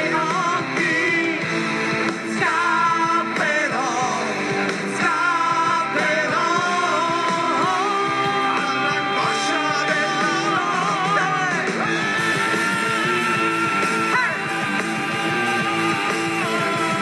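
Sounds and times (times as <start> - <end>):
live rock band playing: 0.0 - 17.0
person singing lead vocals: 0.0 - 17.0
steady drum beat: 0.0 - 17.0.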